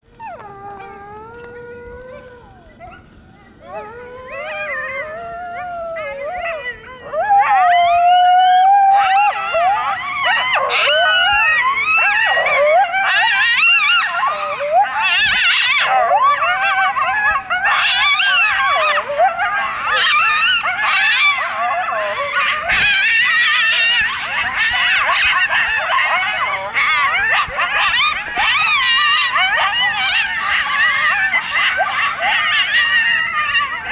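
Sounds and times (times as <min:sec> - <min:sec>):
coyotes howling and yipping: 0:00.0 - 0:33.9.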